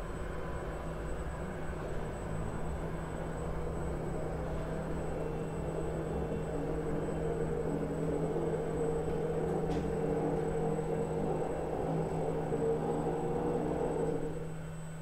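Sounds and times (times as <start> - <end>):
motorized couch humming: 0.0 - 15.0.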